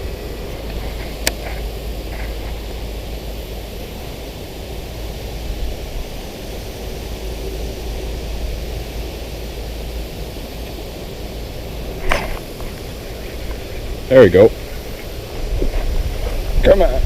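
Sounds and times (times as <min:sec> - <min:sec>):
outdoor hiss: 0:00.0 - 0:17.0
wind buffeting microphone: 0:00.0 - 0:17.0.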